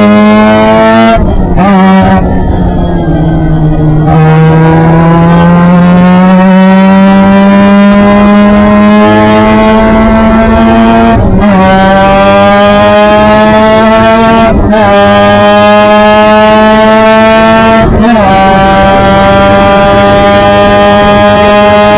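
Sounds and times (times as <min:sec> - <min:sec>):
race car engine at speed: 0:00.0 - 0:21.9.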